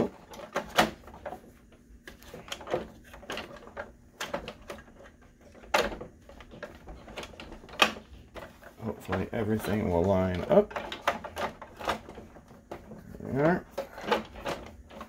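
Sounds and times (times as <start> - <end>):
plastic parts clicking: 2.1 - 15.0.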